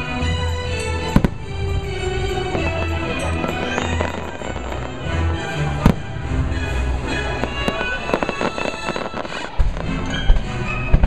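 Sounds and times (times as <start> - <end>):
show music: 0.0 - 11.0
booming firework bangs: 1.0 - 11.0.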